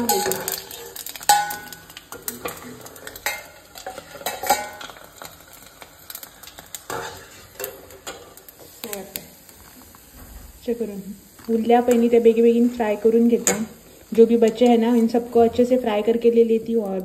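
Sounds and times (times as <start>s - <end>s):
hot oil sizzling and popping: 0.0s - 17.0s.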